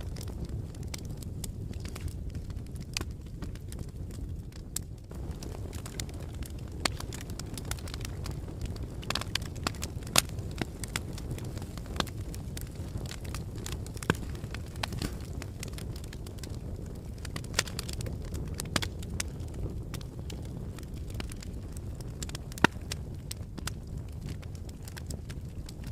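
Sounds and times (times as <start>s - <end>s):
fire crackling and popping: 0.0s - 25.9s
fire flames rumbling: 0.0s - 25.9s.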